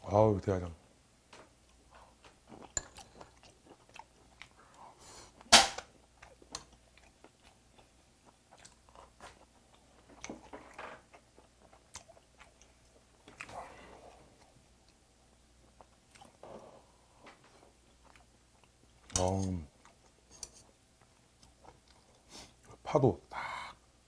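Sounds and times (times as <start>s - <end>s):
man chewing and smacking lips: 1.4s - 22.8s.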